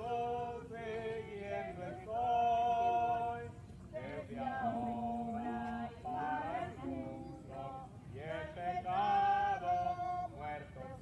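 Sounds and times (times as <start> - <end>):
group singing a hymn: 0.0 - 11.0.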